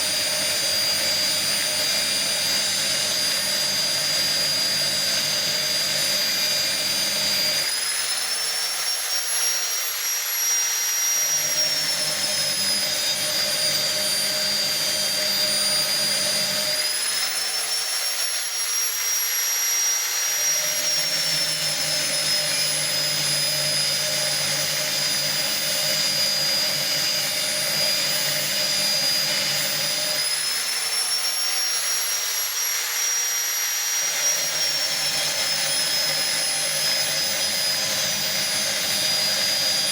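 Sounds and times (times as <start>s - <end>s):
electric grinder whine: 0.0s - 39.9s.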